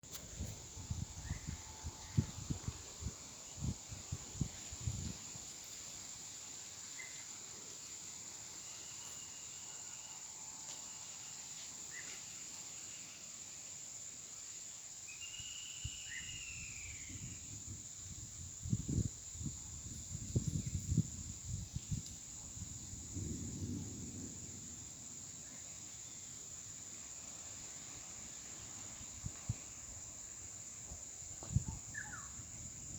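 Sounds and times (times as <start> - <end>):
high-pitched insect chorus: 0.1 - 32.9.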